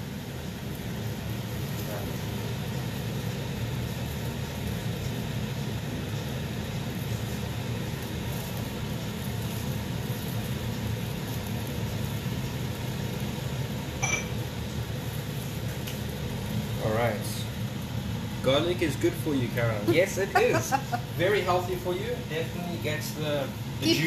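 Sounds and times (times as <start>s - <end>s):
gas burner flame rumbling: 0.0s - 24.0s.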